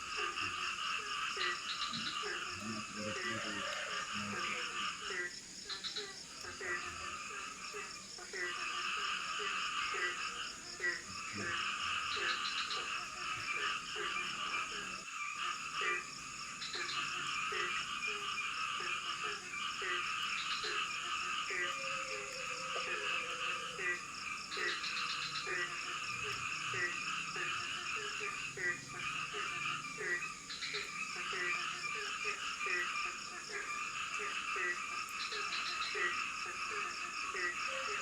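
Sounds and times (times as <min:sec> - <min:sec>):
frogs calling: 0:00.0 - 0:38.0
insect drone: 0:00.0 - 0:38.0.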